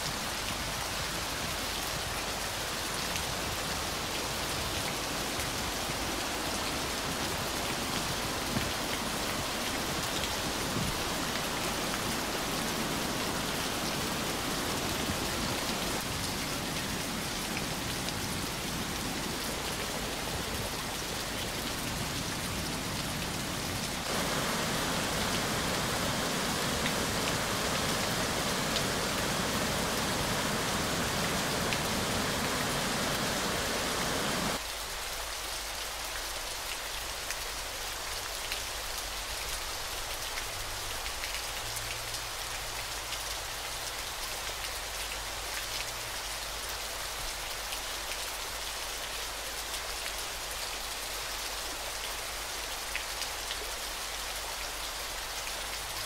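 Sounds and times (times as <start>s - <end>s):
waterfall and rapids rushing: 0.0s - 56.0s.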